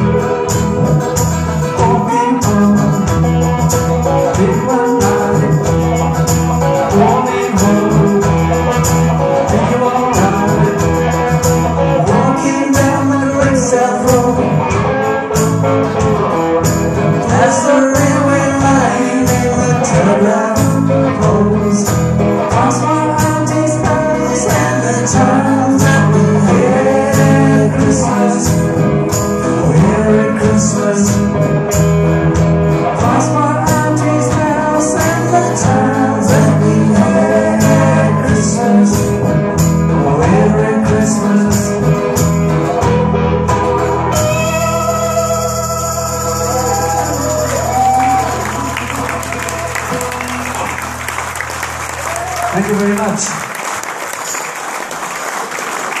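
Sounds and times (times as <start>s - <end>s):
person singing lead vocal: 0.0s - 43.0s, 44.1s - 49.6s
rock band playing: 0.0s - 53.8s.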